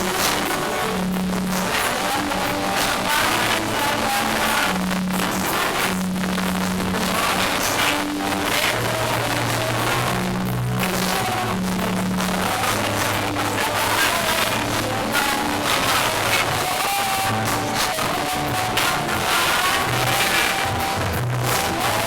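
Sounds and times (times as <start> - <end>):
music with held bass notes: 0.0 - 22.0.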